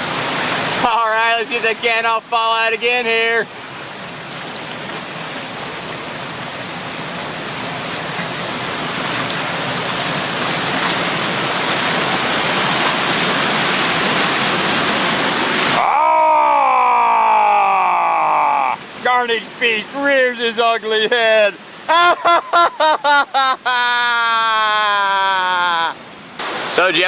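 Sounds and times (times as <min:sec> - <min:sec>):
whitewater rapids rushing: 0:00.0 - 0:27.0.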